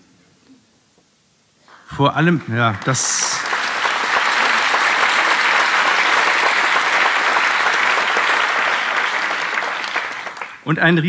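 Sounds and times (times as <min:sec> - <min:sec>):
audience applauding: 0:01.8 - 0:10.7.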